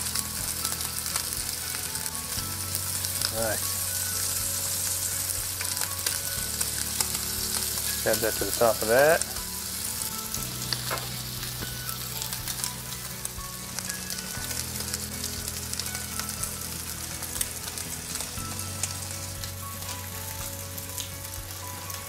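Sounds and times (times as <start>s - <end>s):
quiet background music: 0.0s - 22.0s
steaks sizzling in a skillet: 0.0s - 22.0s.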